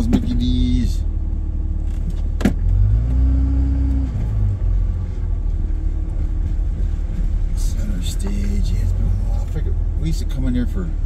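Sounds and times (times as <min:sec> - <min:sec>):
car engine and road rumble: 0:00.0 - 0:11.0
low hum: 0:00.0 - 0:11.0.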